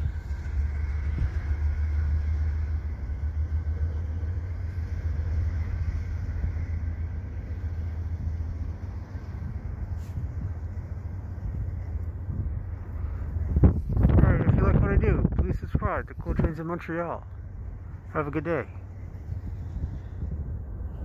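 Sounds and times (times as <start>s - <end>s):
freight train rumble: 0.0s - 21.0s.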